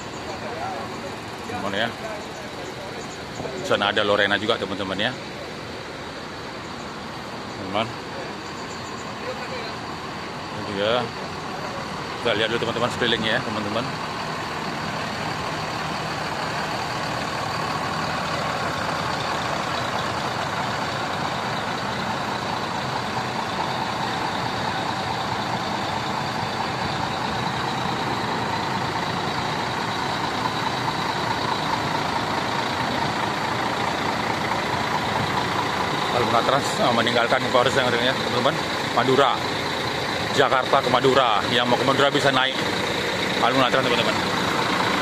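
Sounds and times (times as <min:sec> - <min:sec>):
diesel engines idling: 0:00.0 - 0:45.0
faint steady whines: 0:00.0 - 0:45.0.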